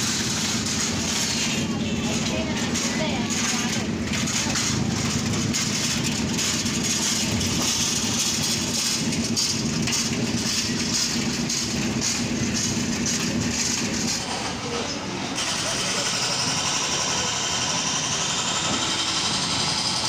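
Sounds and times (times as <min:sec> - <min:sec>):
street noise hiss: 0:00.0 - 0:20.0.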